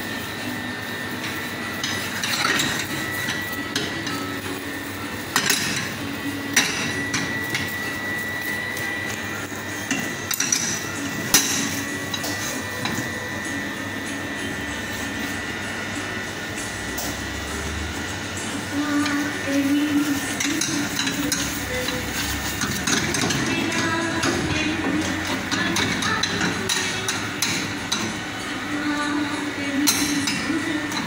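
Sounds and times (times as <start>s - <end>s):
steady hum with high whine: 0.0s - 31.0s.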